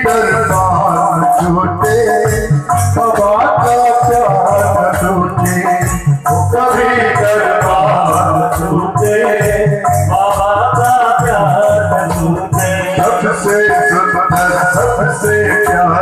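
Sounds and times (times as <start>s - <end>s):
rattling hand percussion: 0.0s - 16.0s
regular drum beat: 0.0s - 16.0s
sustained devotional melody: 0.0s - 16.0s.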